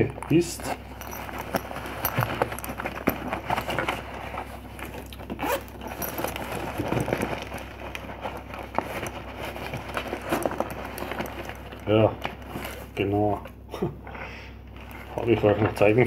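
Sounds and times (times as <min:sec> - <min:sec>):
fabric rustling and scraping: 0:00.0 - 0:13.4
small clicks and knocks of items: 0:00.0 - 0:13.6.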